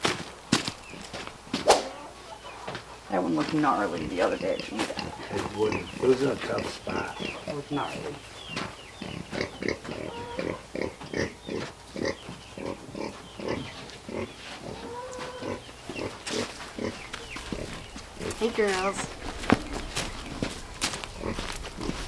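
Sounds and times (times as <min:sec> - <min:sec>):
pigs grunting: 0:03.0 - 0:08.3, 0:08.9 - 0:22.0.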